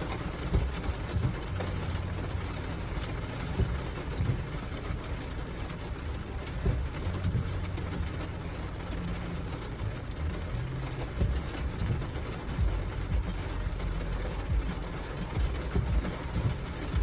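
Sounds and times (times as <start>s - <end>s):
rain on a car: 0.0s - 17.0s
windshield wipers sweeping: 0.0s - 17.0s.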